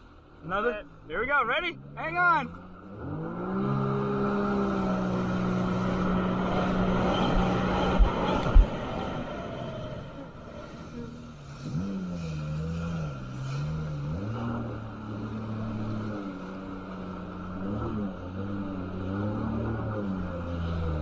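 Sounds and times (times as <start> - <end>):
jet ski engine running: 1.8 - 21.0.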